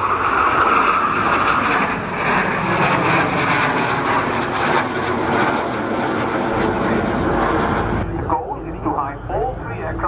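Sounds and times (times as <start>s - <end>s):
jet engine noise: 0.0s - 10.0s.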